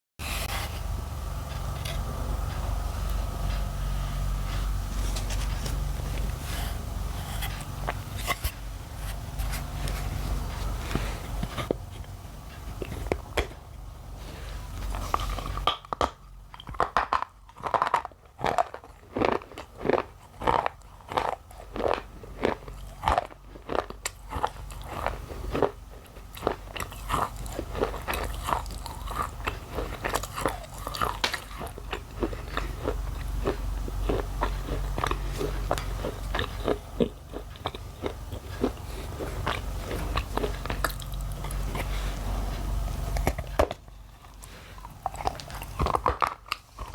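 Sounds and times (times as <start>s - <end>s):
chewing dry crunches: 0.6s - 46.9s.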